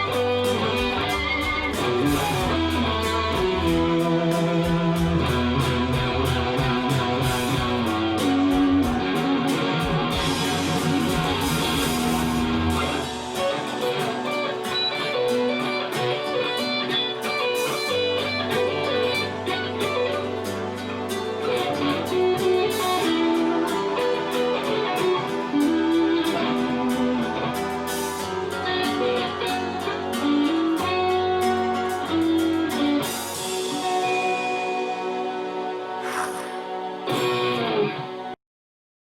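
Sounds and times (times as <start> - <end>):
drums: 0.0 - 35.3, 36.0 - 37.6
bass guitar: 0.0 - 38.4
electric guitar lead with bent notes: 0.0 - 38.4.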